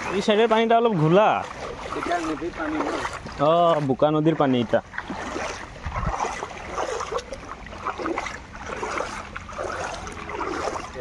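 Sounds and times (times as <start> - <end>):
floodwater sloshing and splashing: 0.0 - 11.0.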